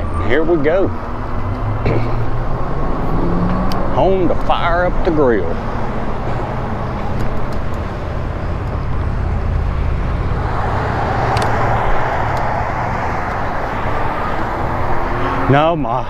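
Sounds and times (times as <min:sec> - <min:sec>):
road noise: 0:00.0 - 0:16.0
wind rushing over microphone: 0:00.5 - 0:15.6.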